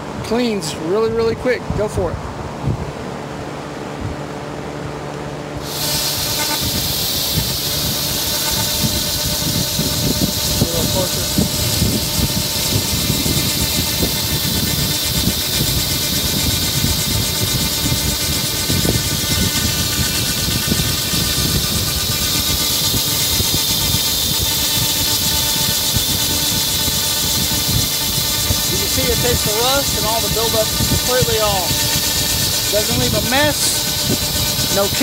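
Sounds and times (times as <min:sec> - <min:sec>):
laser cleaner hissing: 0:05.6 - 0:35.0.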